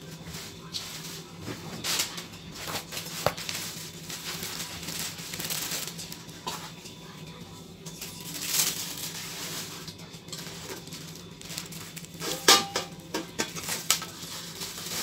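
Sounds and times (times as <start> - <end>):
plastic packaging rustling: 0.1 - 6.7, 8.0 - 12.8, 13.4 - 15.0.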